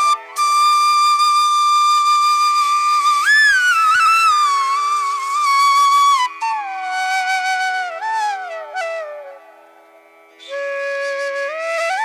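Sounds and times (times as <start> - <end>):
flute holding long note: 0.0 - 9.6, 10.4 - 12.0.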